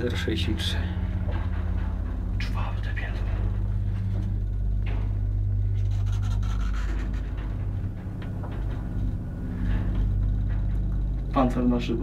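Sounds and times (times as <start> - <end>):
faint clicks and knocks: 0.0 - 11.7
lift drive electric hum: 0.0 - 12.0.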